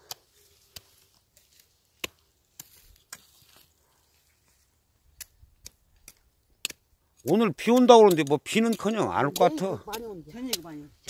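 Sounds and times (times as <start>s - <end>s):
hand axe chopping roots in soil: 0.0s - 3.7s, 5.1s - 11.0s.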